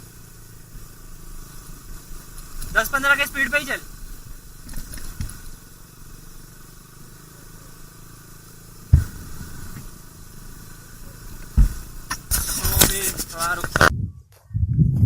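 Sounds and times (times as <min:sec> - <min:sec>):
noisy rustle: 0:00.0 - 0:14.0
sharp thumps: 0:00.0 - 0:14.0
motorcycle engine at low speed: 0:00.0 - 0:15.0.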